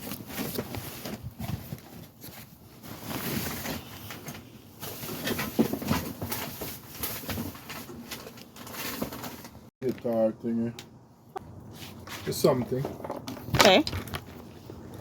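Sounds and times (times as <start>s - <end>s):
objects knocking and scraping: 0.0s - 10.1s, 11.4s - 15.0s.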